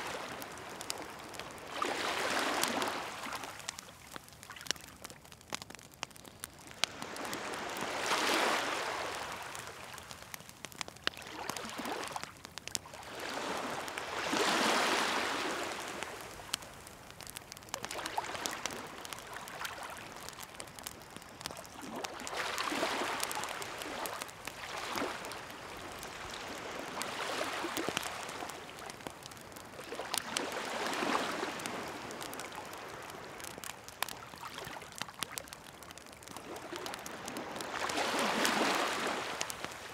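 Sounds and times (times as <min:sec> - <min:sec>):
waves washing on shore: 0:00.0 - 0:04.7, 0:06.6 - 0:39.9
campfire crackling and popping: 0:00.0 - 0:39.9.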